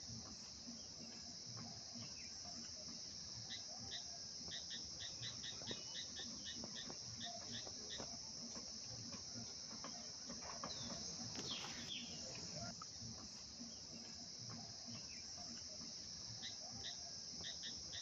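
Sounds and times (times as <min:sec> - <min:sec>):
insect chorus buzzing: 0:00.0 - 0:18.0.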